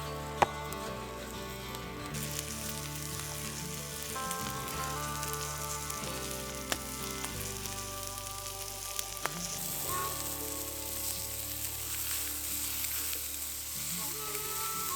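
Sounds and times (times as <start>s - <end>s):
food sizzling in a frying pan: 1.3s - 14.9s.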